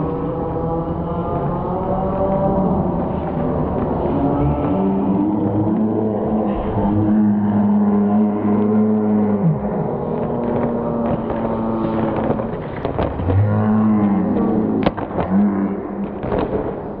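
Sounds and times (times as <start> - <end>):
crowd hubbub: 0.0 - 17.0
spectators cheering: 1.9 - 16.4.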